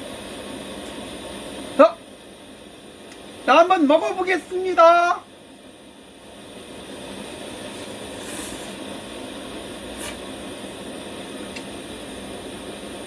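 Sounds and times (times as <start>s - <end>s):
pressure burner hissing: 0.0s - 13.0s.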